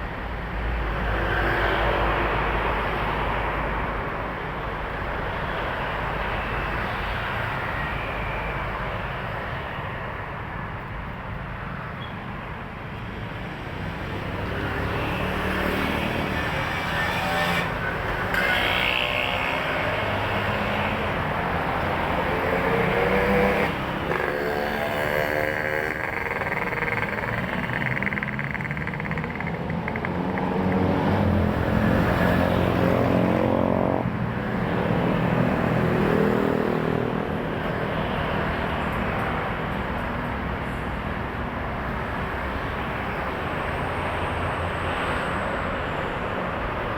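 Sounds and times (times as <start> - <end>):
heavy road traffic passing: 0.0 - 46.9.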